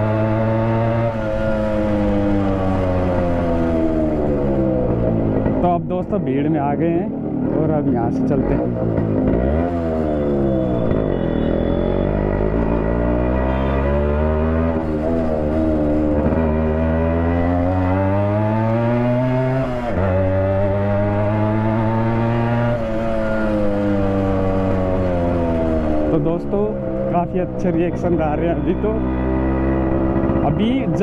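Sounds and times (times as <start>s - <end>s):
two-stroke motorcycle engine revving: 0.0s - 5.8s, 7.2s - 31.0s.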